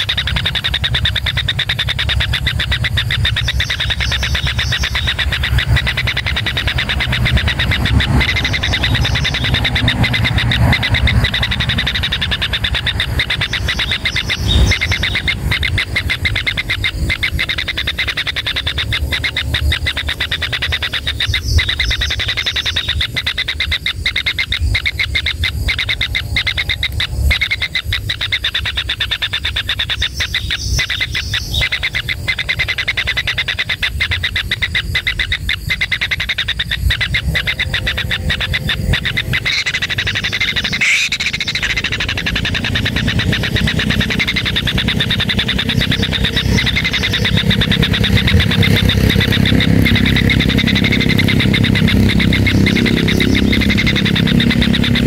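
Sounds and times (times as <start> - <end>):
low rumble: 0.0 - 29.0, 36.6 - 55.0
kingfisher chicks buzzing calls: 0.0 - 55.0.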